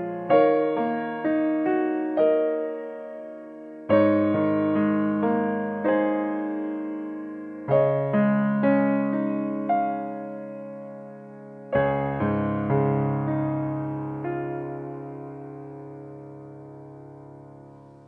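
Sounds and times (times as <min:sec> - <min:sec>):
slow gentle piano: 0:00.0 - 0:18.0.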